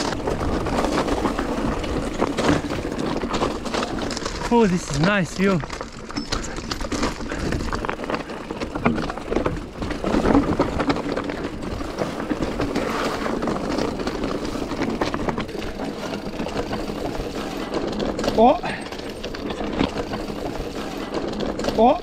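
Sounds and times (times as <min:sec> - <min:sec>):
bike clattering over stones: 0:00.0 - 0:22.0.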